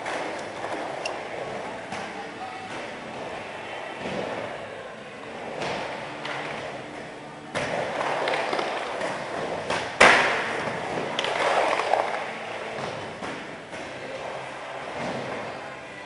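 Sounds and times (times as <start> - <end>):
skateboard clacking on ramp: 0.0 - 4.6, 5.4 - 15.7
skateboard wheels rolling: 0.0 - 16.0.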